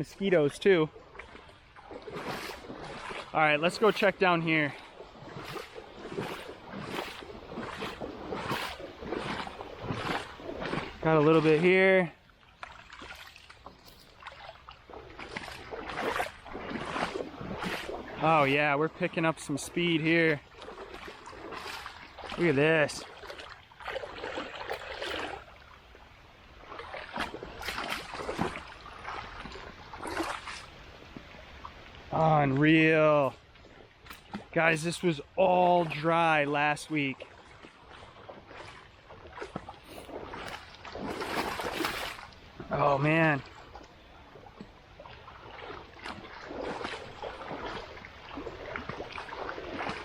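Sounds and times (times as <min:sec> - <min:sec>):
floodwater rushing and gurgling: 0:00.0 - 0:50.0
splashes from wading through water: 0:00.0 - 0:50.0.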